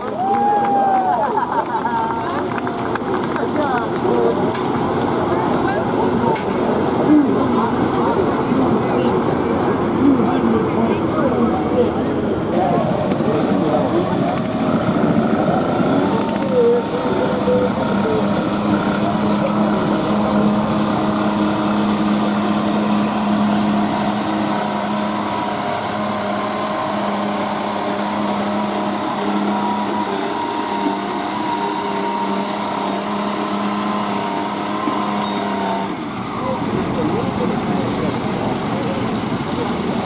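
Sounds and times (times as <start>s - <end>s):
garden tractor engine running: 0.0s - 40.0s.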